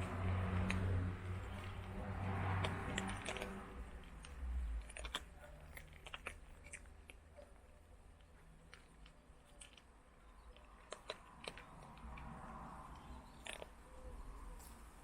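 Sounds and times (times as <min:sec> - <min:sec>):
cat crunching dry food: 0:00.0 - 0:13.8.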